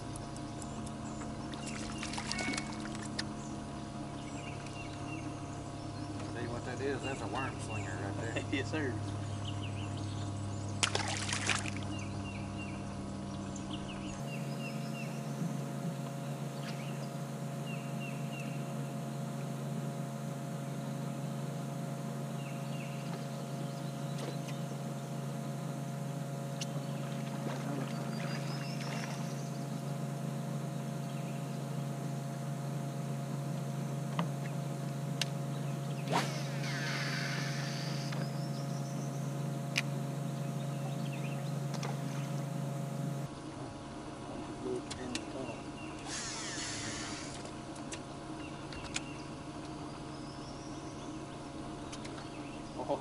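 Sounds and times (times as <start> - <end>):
electric boat motor humming: 0.0 - 53.0.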